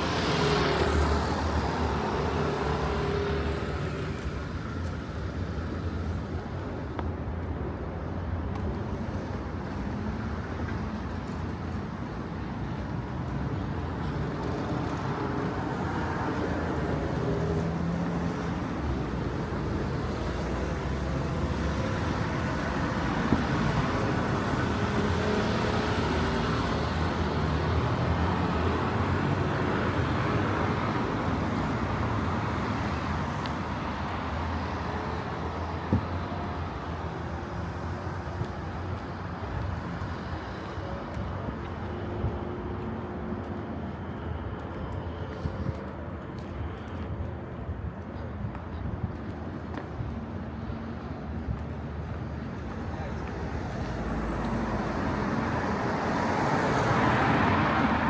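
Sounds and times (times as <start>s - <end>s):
road noise of passing vehicles: 0.0s - 58.0s.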